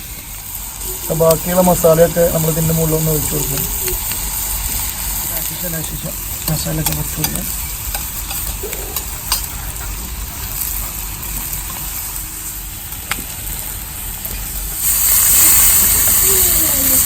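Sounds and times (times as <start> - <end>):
chicken sizzling on hot stone: 0.0 - 17.0.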